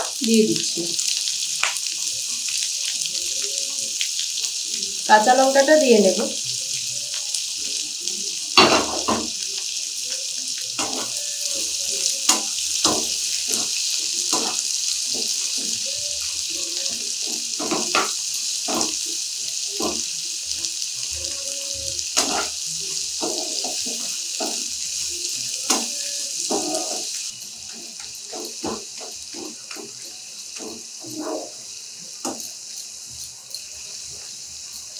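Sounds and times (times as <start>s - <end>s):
vegetables sizzling in oil: 0.0s - 34.9s.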